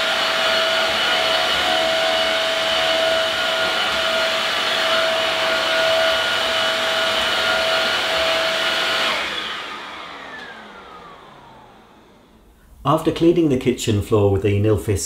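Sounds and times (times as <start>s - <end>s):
floor washer motor whine: 0.0s - 13.3s.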